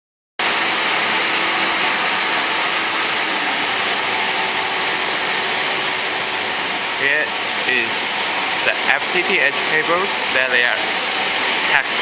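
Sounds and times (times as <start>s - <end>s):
machinery whirring hiss: 1.7s - 12.0s.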